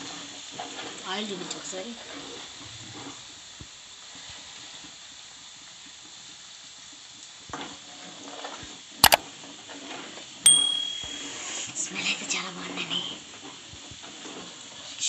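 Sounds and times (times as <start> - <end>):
curds sizzling in oil: 0.0 - 10.4, 11.2 - 15.0.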